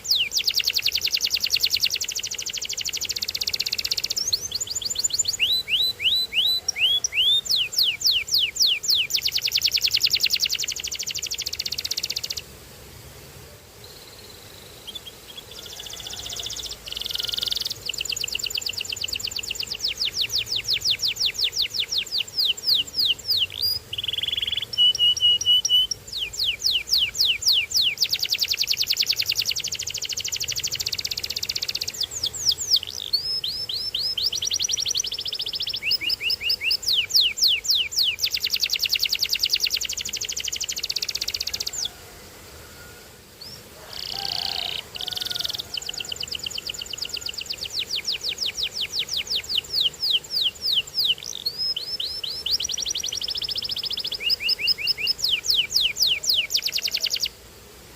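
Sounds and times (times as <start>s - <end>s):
canary singing: 0.0s - 12.5s, 13.9s - 42.0s, 42.7s - 57.4s.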